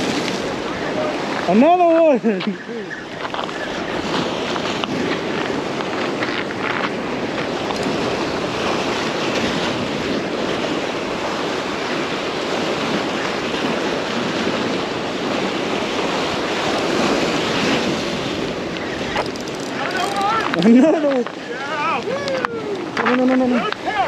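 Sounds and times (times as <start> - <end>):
sea waves washing against rocks: 0.0 - 24.0
wind on microphone: 0.0 - 24.0.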